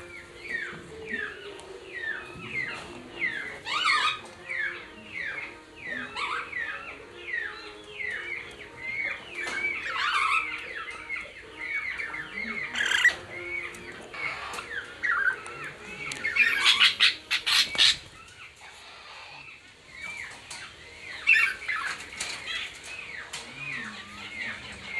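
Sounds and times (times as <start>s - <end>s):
caged birds chirping: 0.0s - 24.9s.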